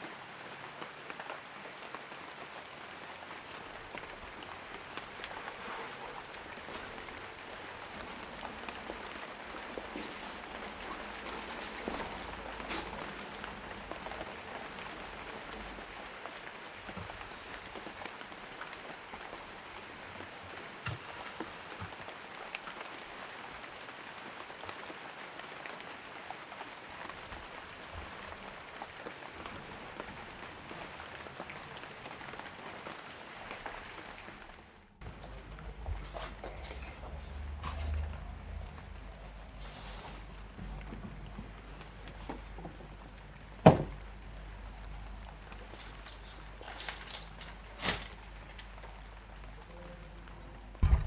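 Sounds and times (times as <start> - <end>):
steady rain pattering: 0.0 - 51.0.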